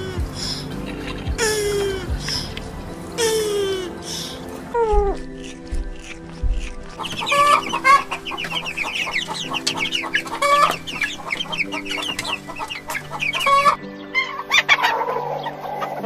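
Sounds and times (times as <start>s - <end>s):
background music: 0.0s - 16.0s
chicks peeping: 0.0s - 16.0s
hen calling: 0.0s - 16.0s.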